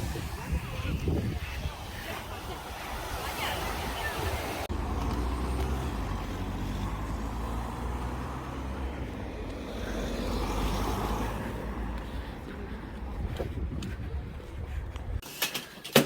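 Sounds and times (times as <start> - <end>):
car engine and road noise: 0.0 - 15.3.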